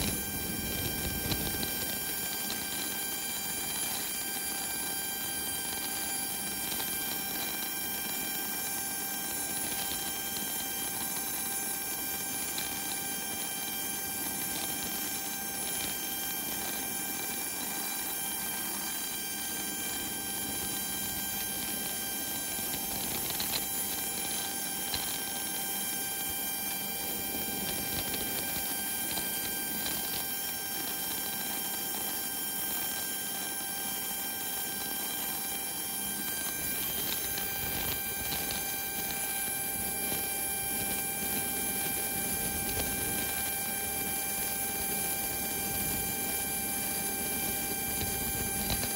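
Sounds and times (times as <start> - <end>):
auxiliary power unit whine: 0.0 - 48.9.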